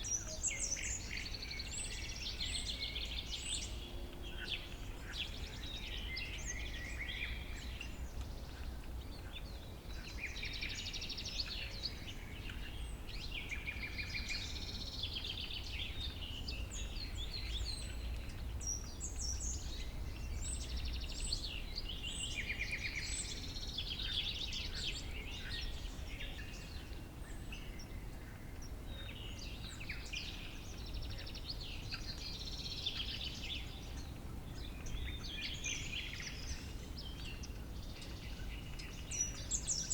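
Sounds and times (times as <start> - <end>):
small birds singing: 0.0 - 39.9.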